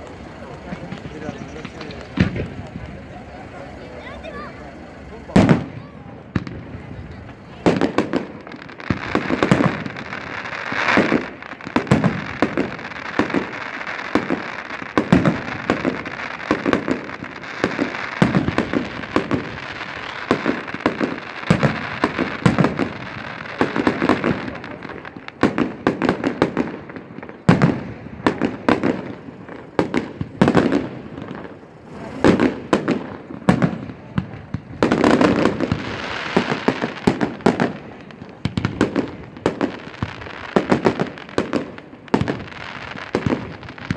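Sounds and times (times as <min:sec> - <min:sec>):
firework bangs: 0:00.0 - 0:43.9
firework hiss: 0:00.0 - 0:43.9.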